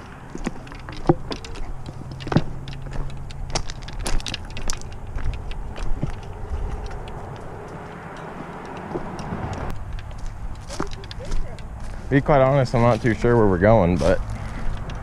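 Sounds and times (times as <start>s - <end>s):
footsteps on gravel: 0.0s - 15.0s
gear rattling: 0.0s - 15.0s.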